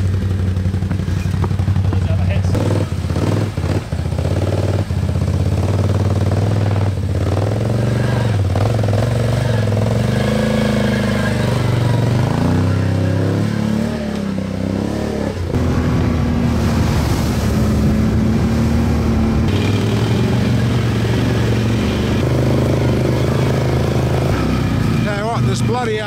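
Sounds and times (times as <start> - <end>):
quad bike engines under load: 0.0 - 26.0.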